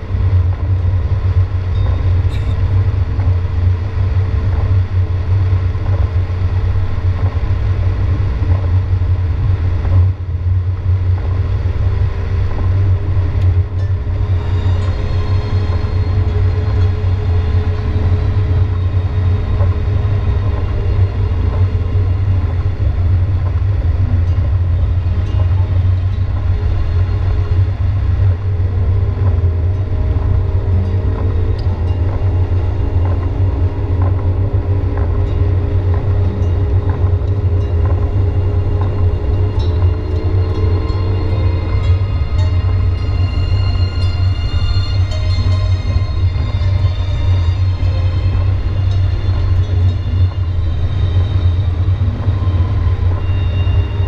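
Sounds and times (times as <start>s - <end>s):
heavy rain: 0.0s - 54.0s
road and engine rumble: 0.0s - 54.0s.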